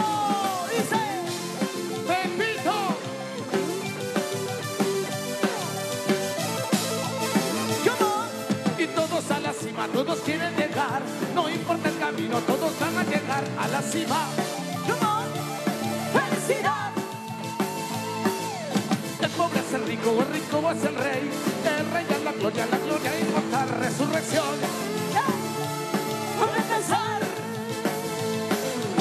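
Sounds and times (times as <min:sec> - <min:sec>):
dance orchestra playing: 0:00.0 - 0:29.0.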